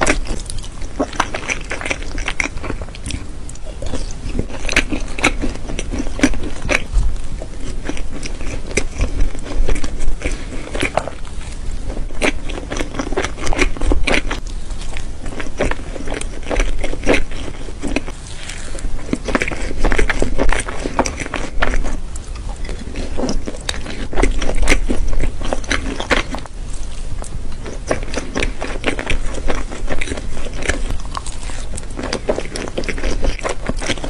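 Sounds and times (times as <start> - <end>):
chewing with mouth clicks: 0.0 - 11.3, 12.0 - 34.0.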